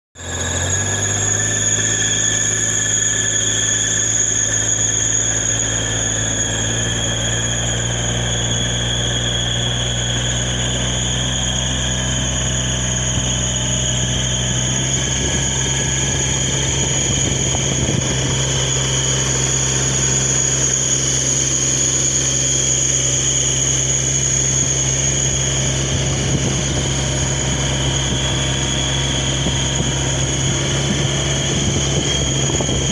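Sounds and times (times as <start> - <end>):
high even whine: 0.2 - 32.9
utility vehicle motor humming: 0.2 - 32.9.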